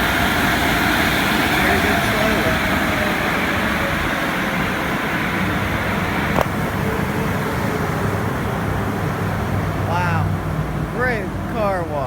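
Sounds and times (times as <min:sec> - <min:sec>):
blower dryers rushing hiss: 0:00.0 - 0:12.0.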